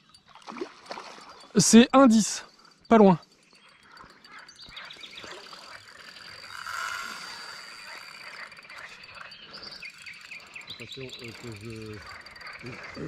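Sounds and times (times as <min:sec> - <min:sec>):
frogs croaking: 0:00.0 - 0:13.0
high insect trill: 0:00.0 - 0:13.0.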